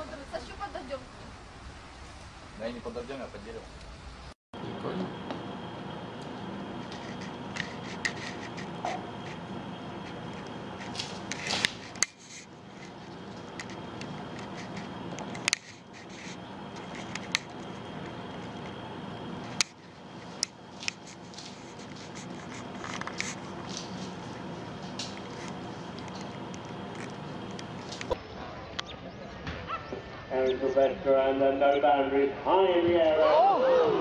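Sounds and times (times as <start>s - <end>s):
indoor room hum: 0.0s - 34.0s.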